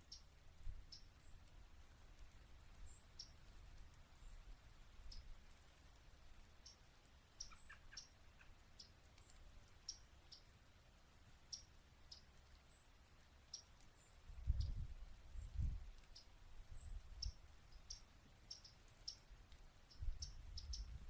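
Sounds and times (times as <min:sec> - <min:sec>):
songbirds chip notes: 0:00.0 - 0:21.0.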